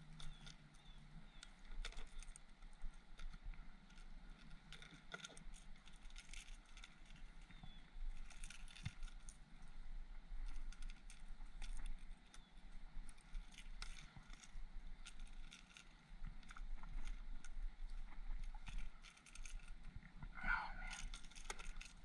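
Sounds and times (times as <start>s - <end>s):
small clicks: 0.0s - 9.6s, 10.4s - 22.0s.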